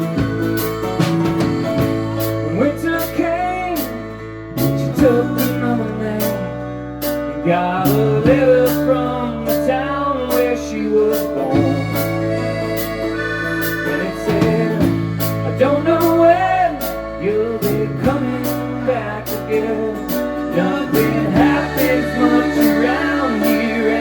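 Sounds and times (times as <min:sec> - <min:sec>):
sustained band chords: 0:00.0 - 0:24.0
person singing: 0:01.4 - 0:06.6, 0:07.4 - 0:24.0.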